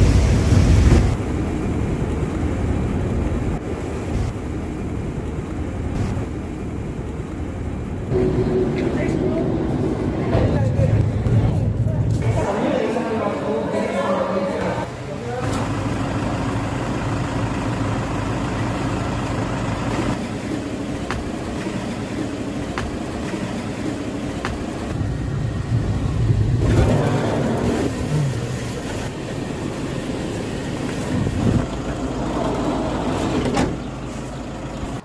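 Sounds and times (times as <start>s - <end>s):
van engine running: 0.0s - 8.7s, 14.9s - 35.0s
road noise: 0.0s - 35.0s.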